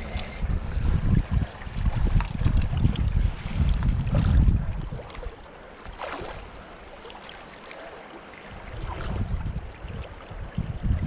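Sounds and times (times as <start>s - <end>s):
wind rumbling on microphone: 0.0s - 6.9s, 8.4s - 11.0s
flowing river water: 0.0s - 11.0s
water splashes: 0.0s - 11.0s.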